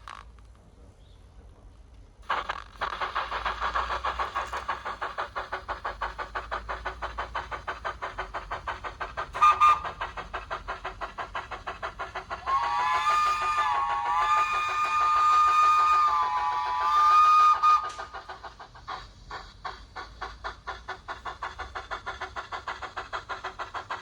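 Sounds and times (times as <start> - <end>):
model steam locomotive chuffing: 1.8 - 24.0.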